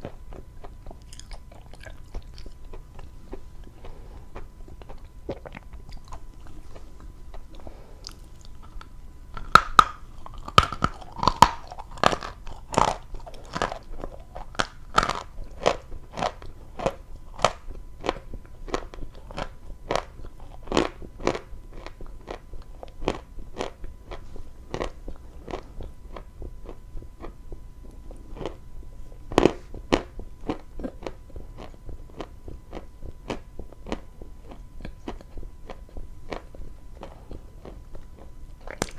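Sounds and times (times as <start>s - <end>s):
chewing crunchy chalk: 0.0s - 38.9s.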